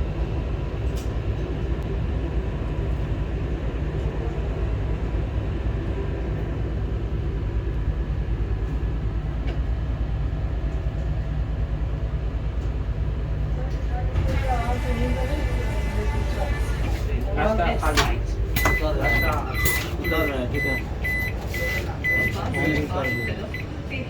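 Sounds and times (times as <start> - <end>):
train rumble inside coach: 0.0 - 24.0.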